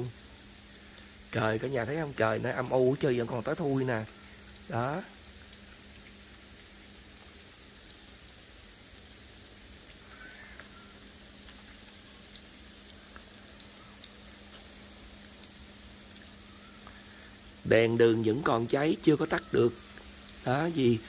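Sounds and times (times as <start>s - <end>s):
light ticks of ice pellets: 0.6s - 17.7s, 19.2s - 20.5s.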